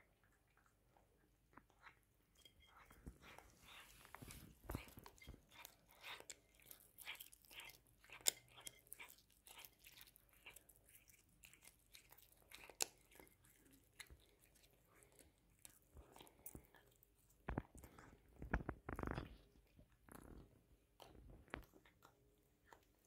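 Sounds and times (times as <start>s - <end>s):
cat chewing and tearing: 0.3s - 23.0s.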